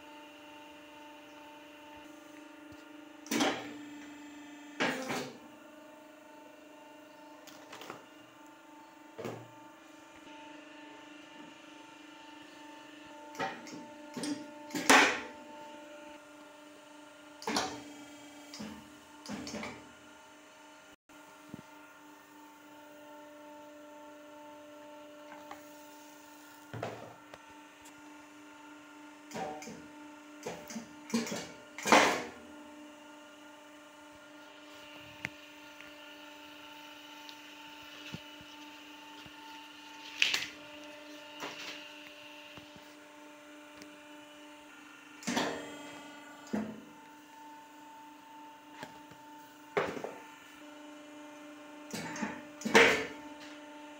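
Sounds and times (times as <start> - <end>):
press machine humming: 0.0 - 53.9.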